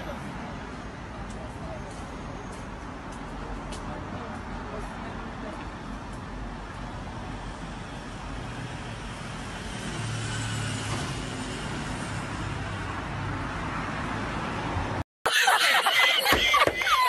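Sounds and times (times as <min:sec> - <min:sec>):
hum of passing vehicles: 0:00.0 - 0:15.0.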